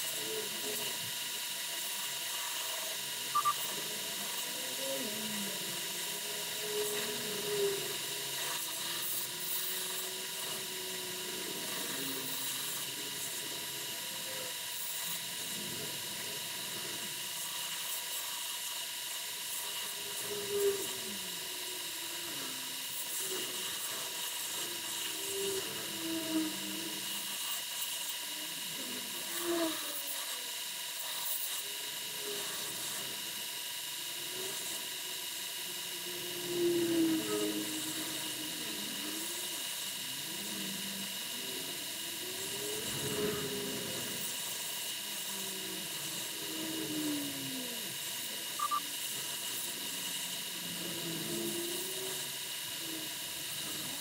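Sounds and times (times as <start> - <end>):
electric grinder whining: 0.0 - 17.2, 19.0 - 27.4, 31.6 - 54.0.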